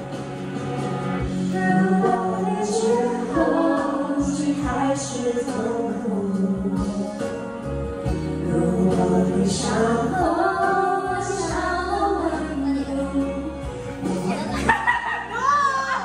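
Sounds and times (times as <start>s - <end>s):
music backing track with bass: 0.0s - 16.0s
person singing: 1.3s - 16.0s.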